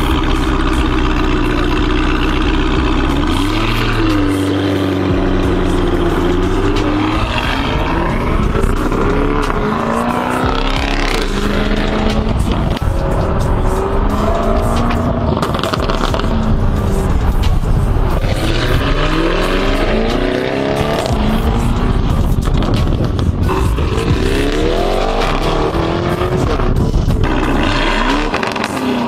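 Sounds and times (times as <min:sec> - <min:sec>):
car engine accelerating hard: 0:00.0 - 0:29.0.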